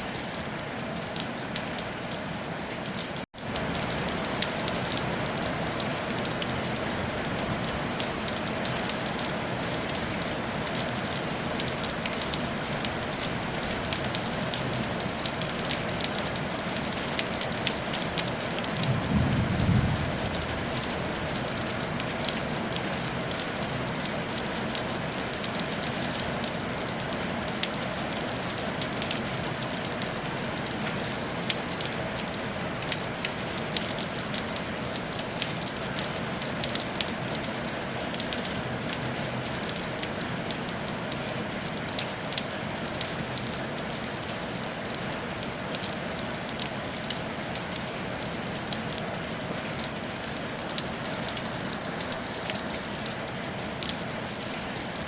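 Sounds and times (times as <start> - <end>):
rain on a tile roof: 0.0 - 55.0.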